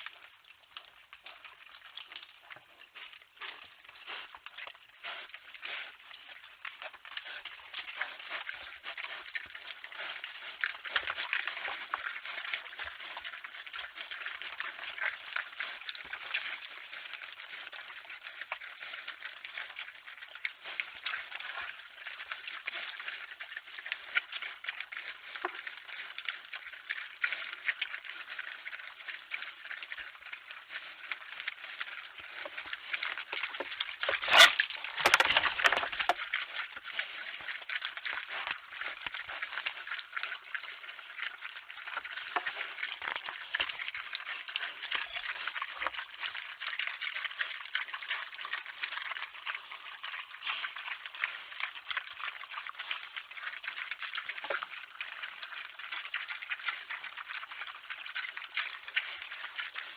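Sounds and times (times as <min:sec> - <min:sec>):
pattering and ticking: 0:00.0 - 0:59.9.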